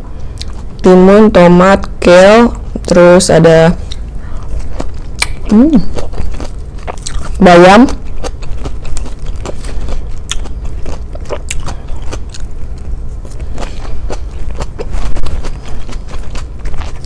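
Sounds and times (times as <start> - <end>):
crunchy chewing of salad: 0.2 - 0.9, 3.8 - 17.0.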